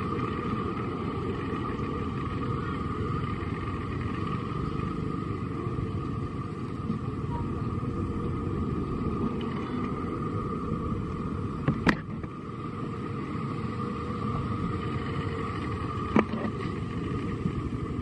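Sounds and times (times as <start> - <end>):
faint high hum: 0.0 - 18.0.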